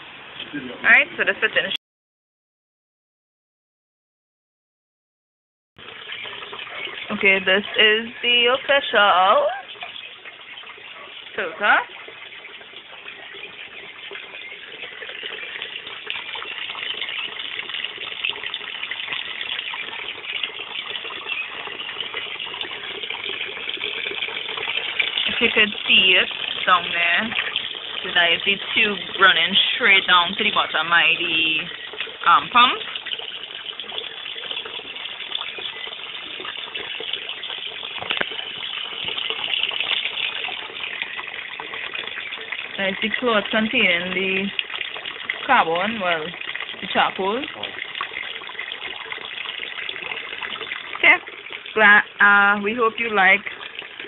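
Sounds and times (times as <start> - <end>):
water splashing into a tank: 5.8 - 54.0.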